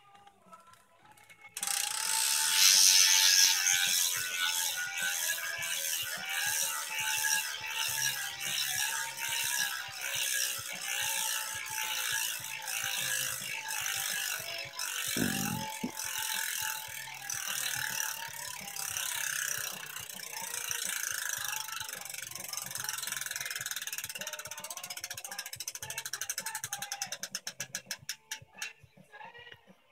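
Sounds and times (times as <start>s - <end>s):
bicycle hub ratchet clicking: 0.6s - 28.7s.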